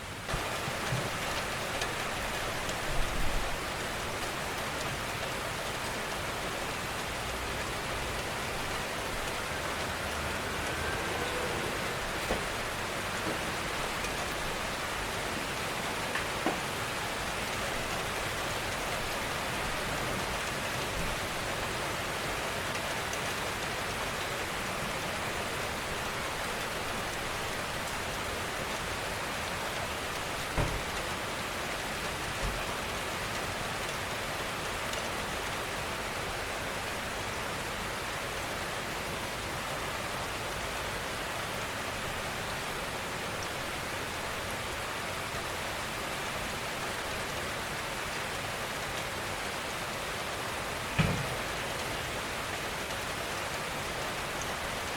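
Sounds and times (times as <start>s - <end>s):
gentle rainfall: 0.0s - 54.9s.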